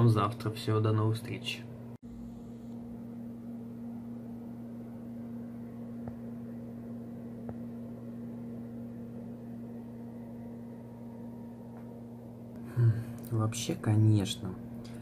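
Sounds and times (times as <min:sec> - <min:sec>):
low hum: 0:01.6 - 0:15.0.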